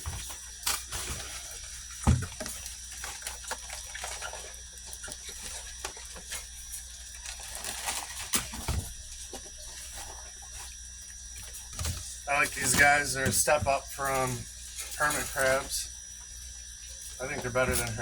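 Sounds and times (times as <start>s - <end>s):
crabs tapping and clicking: 0.2s - 18.0s.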